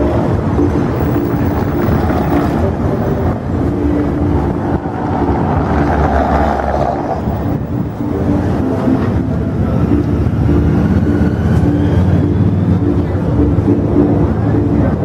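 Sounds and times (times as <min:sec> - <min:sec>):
car engines passing: 0:00.0 - 0:15.0
wind rumbling on microphone: 0:00.0 - 0:15.0.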